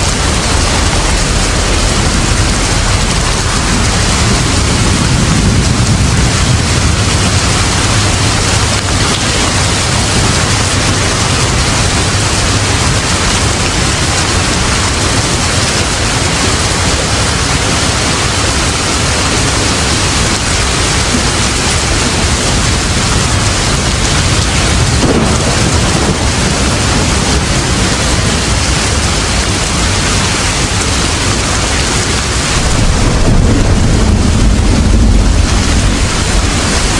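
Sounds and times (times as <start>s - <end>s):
heavy rain: 0.0s - 36.9s
thunder rumbling: 0.0s - 36.9s.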